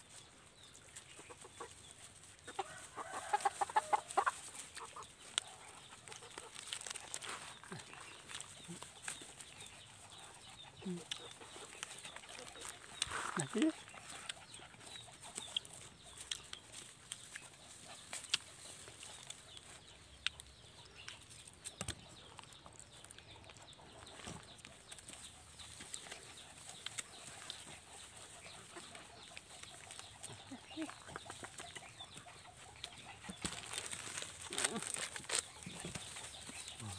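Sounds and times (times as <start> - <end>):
faint chickens clucking: 0.0 - 36.9.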